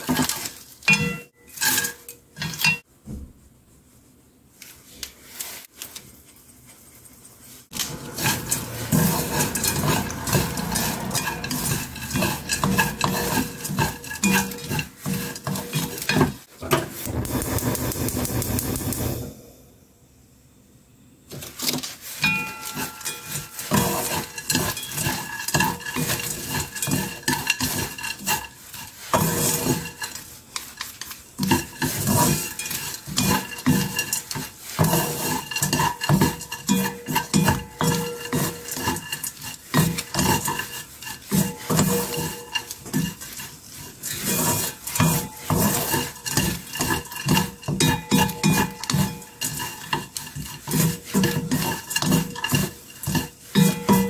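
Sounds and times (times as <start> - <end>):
chopsticks scraping a pan: 0.0 - 2.8, 6.9 - 19.2, 21.4 - 54.0.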